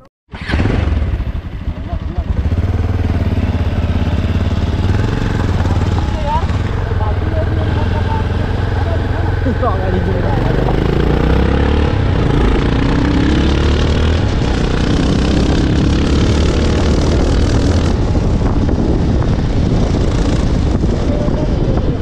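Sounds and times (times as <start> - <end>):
motorcycle engine running: 0.0 - 22.0
wind rushing on microphone: 2.4 - 22.0.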